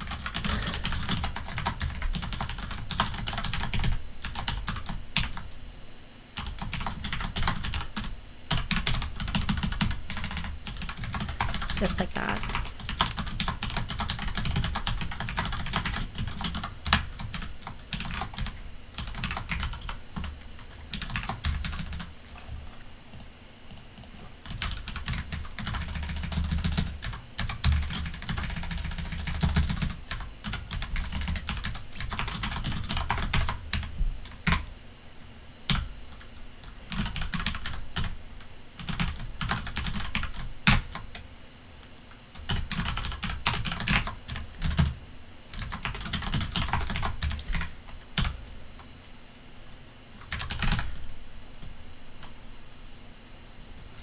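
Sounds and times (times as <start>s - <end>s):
computer keyboard typing: 0.0s - 5.6s, 6.4s - 34.6s, 35.7s - 38.2s, 38.8s - 41.2s, 42.3s - 48.4s, 50.2s - 51.0s.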